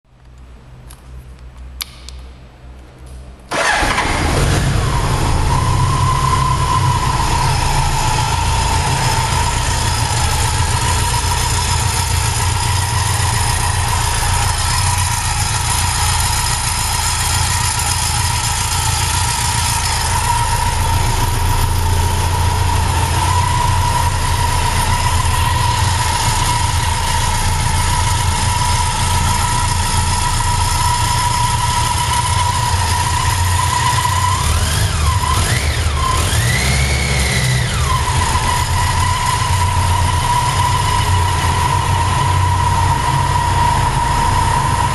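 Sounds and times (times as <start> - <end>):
motorcycle engine idling and revving: 3.5 - 44.9.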